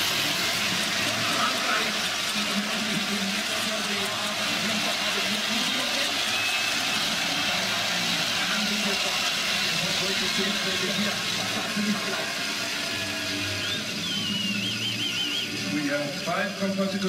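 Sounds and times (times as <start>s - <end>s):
stadium crowd cheering: 0.0s - 17.0s.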